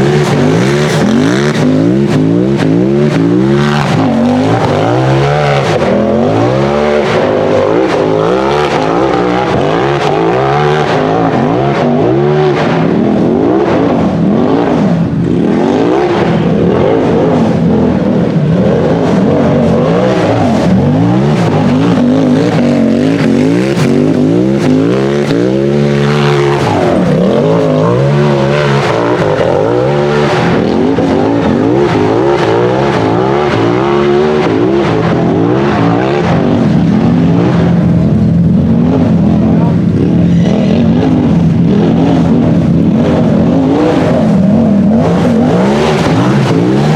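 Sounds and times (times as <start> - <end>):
buggy engine revving: 0.0 - 46.9.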